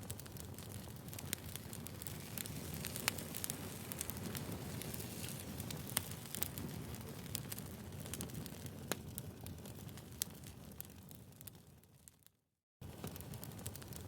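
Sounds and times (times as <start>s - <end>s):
wood fire crackling: 0.0s - 12.2s, 12.8s - 14.0s.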